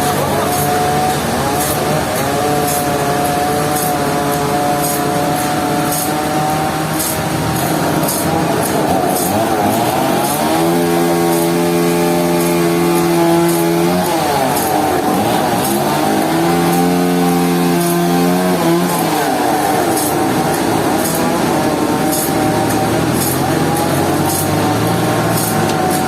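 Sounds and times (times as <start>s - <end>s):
sawmill motor running: 0.0s - 26.0s.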